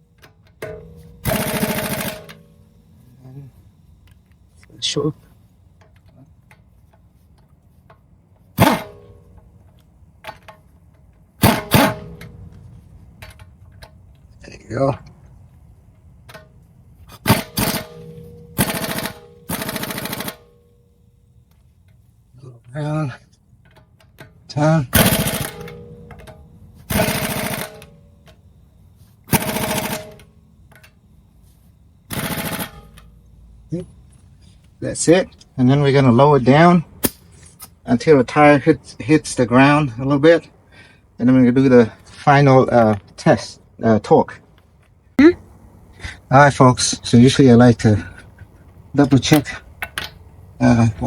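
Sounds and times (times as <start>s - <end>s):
air impact wrench bursts: 0.0s - 43.0s, 44.4s - 51.0s.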